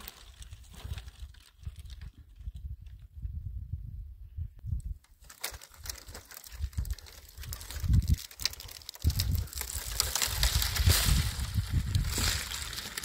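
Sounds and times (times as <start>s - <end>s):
branches scraping over stony ground: 0.0s - 2.6s, 5.2s - 13.0s
dry branches crackling and snapping: 0.0s - 3.0s, 4.8s - 13.0s.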